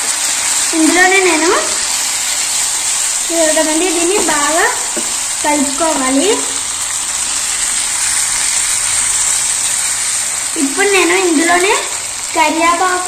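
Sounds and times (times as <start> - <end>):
chicken sizzling in hot oil: 0.0 - 13.0
wooden spatula turning food: 0.2 - 13.0.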